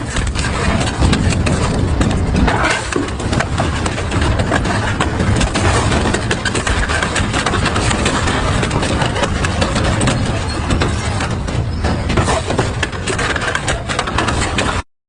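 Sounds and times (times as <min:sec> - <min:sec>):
blades crunching and tearing metal: 0:00.0 - 0:14.8.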